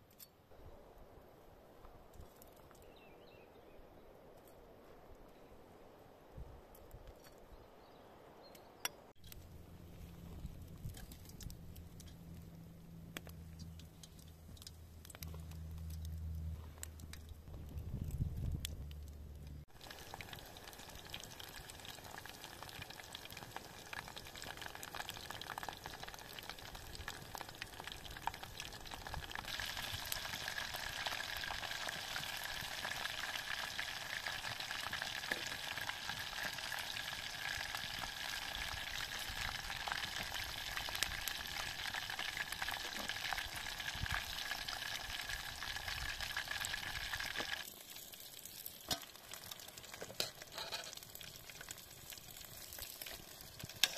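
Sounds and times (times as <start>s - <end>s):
oil sizzling and crackling: 9.2s - 53.9s.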